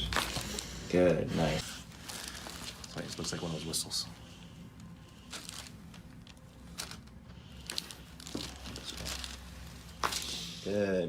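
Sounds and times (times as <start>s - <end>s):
rustling and crinkling: 0.0s - 10.6s.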